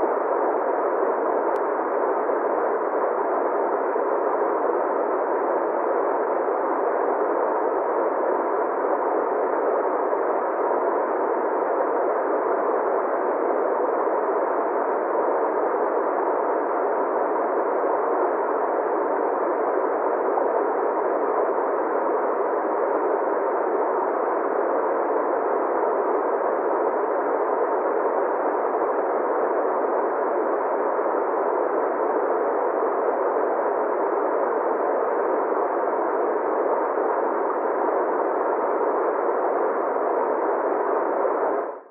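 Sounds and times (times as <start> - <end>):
faint steady tone: 0.0 - 41.9.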